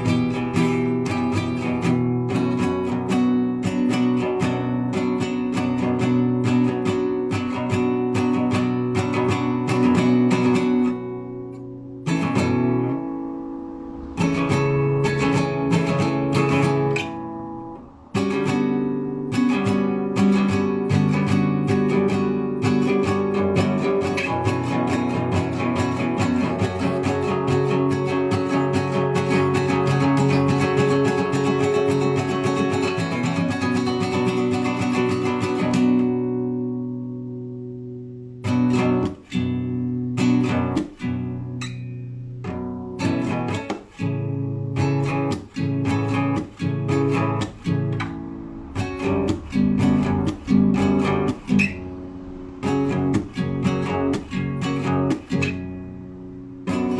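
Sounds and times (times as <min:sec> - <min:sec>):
classical guitar playing: 0:00.0 - 0:56.9.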